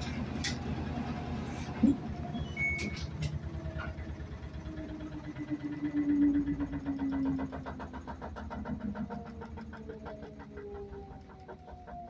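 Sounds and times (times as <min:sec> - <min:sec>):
washing machine motor hum pulsing: 0:00.0 - 0:12.0.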